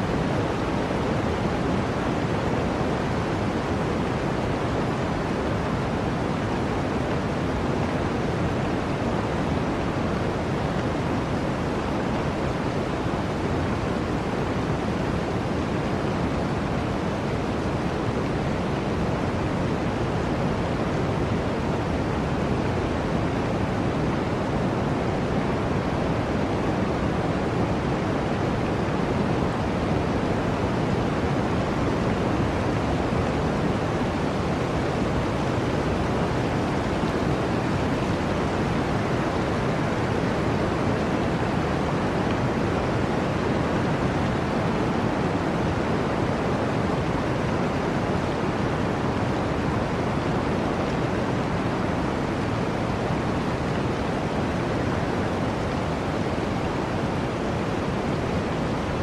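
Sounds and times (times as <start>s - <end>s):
wind rushing through forest: 0.0s - 59.0s.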